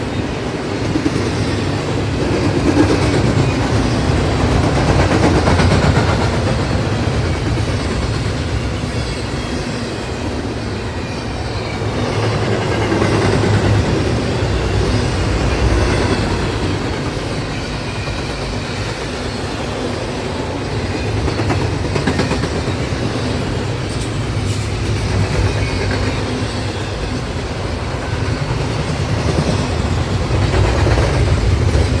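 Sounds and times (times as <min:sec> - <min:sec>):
freight train wheels on rail: 0:00.0 - 0:32.0.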